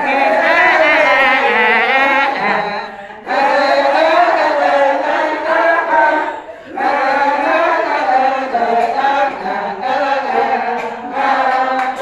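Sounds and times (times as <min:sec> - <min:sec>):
women singing and chanting: 0:00.0 - 0:12.0.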